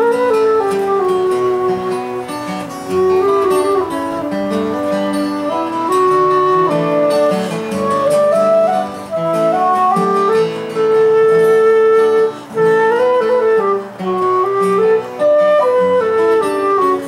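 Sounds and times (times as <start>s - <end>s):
acoustic guitar: 0.0s - 17.0s
flute melody: 0.0s - 17.0s.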